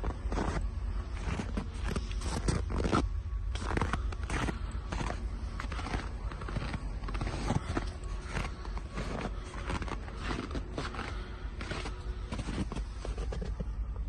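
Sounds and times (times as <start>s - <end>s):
footsteps: 0.0s - 13.7s
diesel truck engine running: 0.0s - 14.0s.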